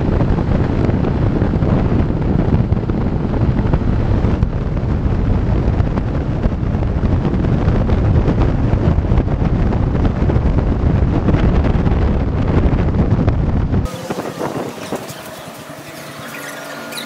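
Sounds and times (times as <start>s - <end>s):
motorcycle road and engine noise: 0.0s - 17.0s
wind buffeting microphone: 0.0s - 17.0s.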